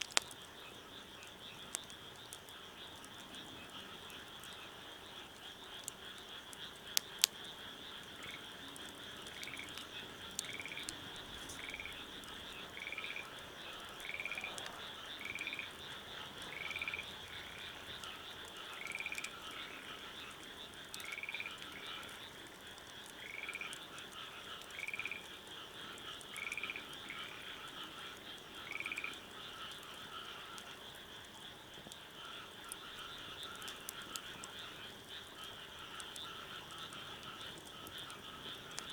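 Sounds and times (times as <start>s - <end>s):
frog chorus: 0.0s - 38.9s.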